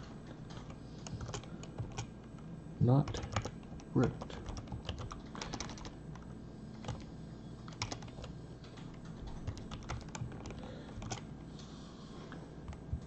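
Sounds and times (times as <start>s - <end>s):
computer keyboard typing: 0.0s - 2.4s, 3.0s - 11.4s.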